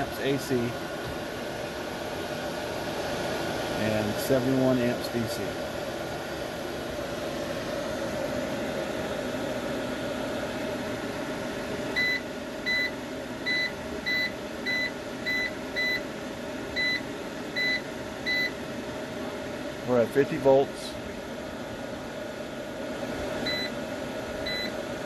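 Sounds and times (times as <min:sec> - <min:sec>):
cooling fans humming: 0:00.0 - 0:25.0.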